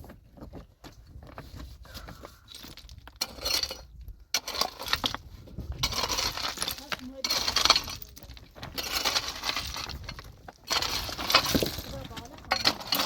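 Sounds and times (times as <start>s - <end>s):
stones clinking and clattering: 2.5s - 13.0s.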